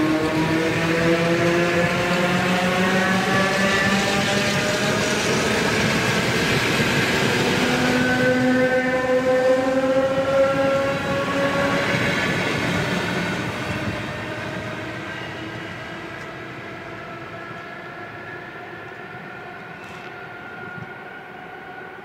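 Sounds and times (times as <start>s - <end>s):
train wheels rumbling: 0.0s - 21.4s
train whine: 0.0s - 22.0s.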